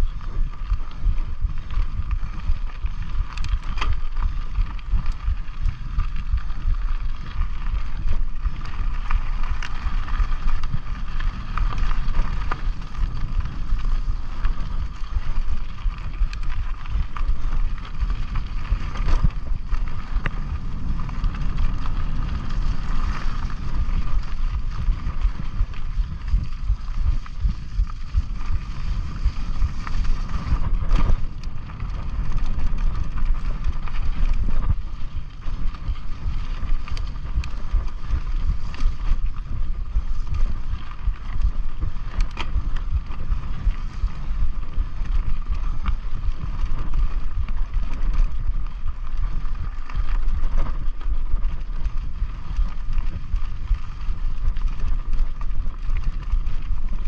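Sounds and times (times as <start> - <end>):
bike clicking and rattling: 0.0 - 57.0
low rumble of bike ride: 0.0 - 57.0
wind rushing over microphone: 0.0 - 57.0.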